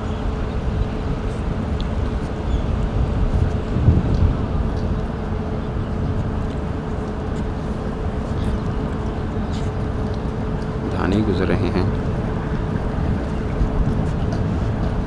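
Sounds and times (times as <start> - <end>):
faint constant hum: 0.0 - 15.0
low rumble of wind or traffic: 0.0 - 15.0.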